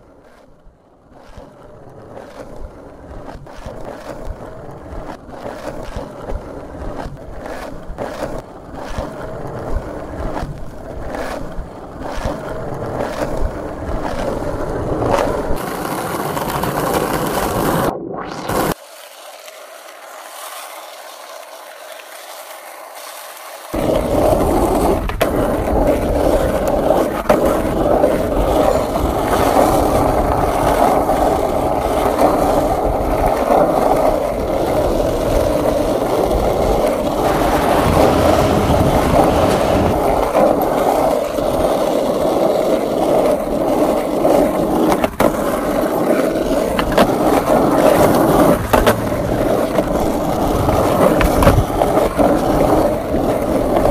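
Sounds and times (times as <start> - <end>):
skateboard wheels rolling on asphalt: 0.0 - 53.9.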